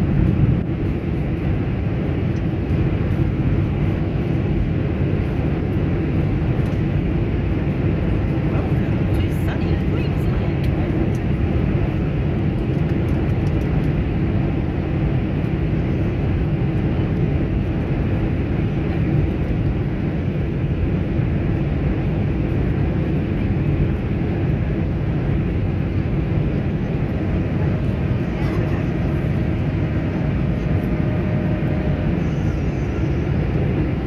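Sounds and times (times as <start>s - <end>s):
airliner engines rumbling: 0.0s - 34.0s.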